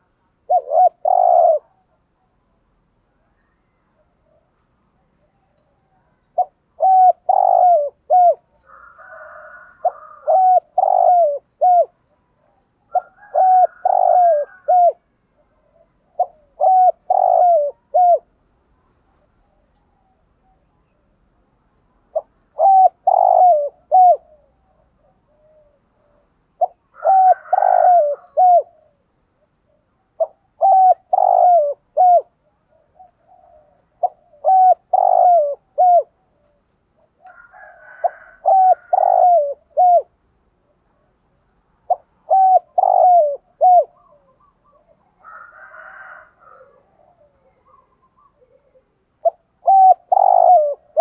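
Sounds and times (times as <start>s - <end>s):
dove cooing: 0.0s - 18.4s, 19.0s - 21.0s, 22.1s - 41.2s, 41.8s - 51.0s
soft rough bird call: 0.0s - 51.0s.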